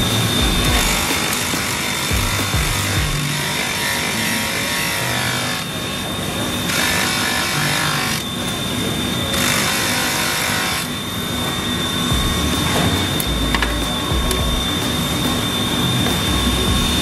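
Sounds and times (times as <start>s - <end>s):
polishing machine whining: 0.0s - 17.0s.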